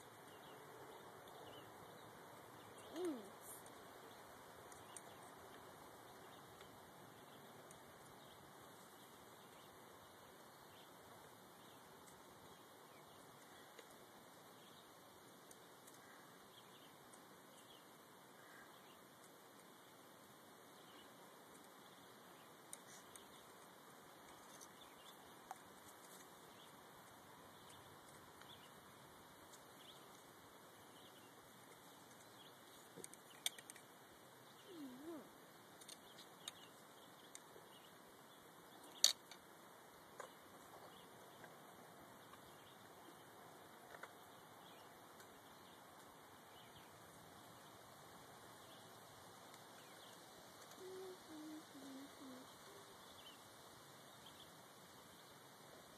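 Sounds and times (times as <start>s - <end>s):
faint hiss: 0.0s - 55.9s.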